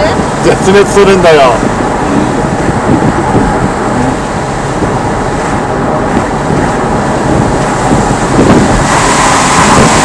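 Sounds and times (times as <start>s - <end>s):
car engine hum: 0.0s - 10.0s
road and tyre noise: 0.0s - 10.0s.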